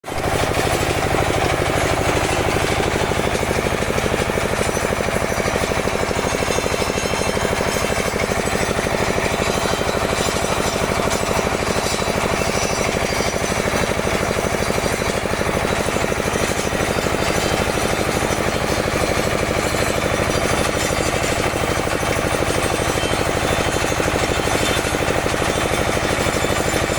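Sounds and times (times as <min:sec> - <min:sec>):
small drill machine running: 0:00.1 - 0:26.9.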